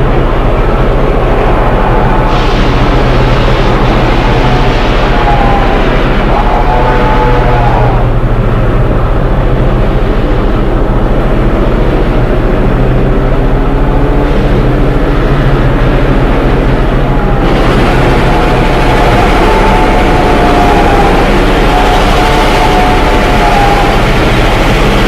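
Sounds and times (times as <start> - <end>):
bright rushing noise: 0.0 - 25.0
train engine drone and rumble: 0.0 - 25.0.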